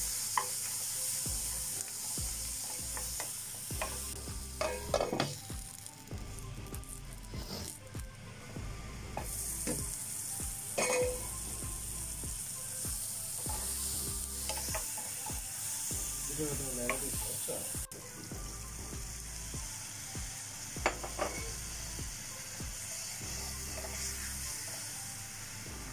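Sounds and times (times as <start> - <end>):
food sizzling in a frying pan: 0.0 - 25.9.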